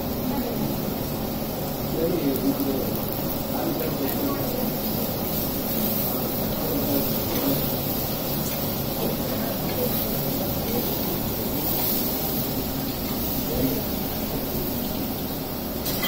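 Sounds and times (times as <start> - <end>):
vegetables sizzling in pan: 0.0 - 16.0.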